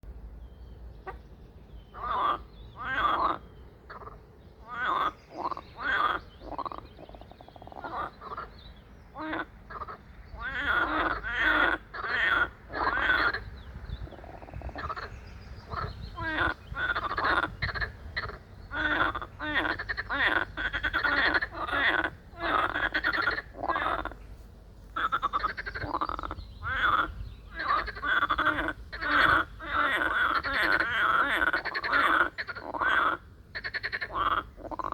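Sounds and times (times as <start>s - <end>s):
low steady rumble: 0.0s - 31.3s
frogs croaking: 1.0s - 1.2s, 1.9s - 34.9s.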